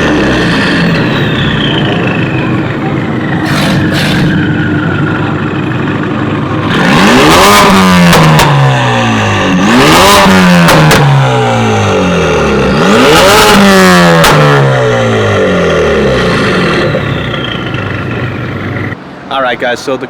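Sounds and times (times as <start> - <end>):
car engine revving: 0.0 - 19.0
exhaust cracks: 0.0 - 19.0.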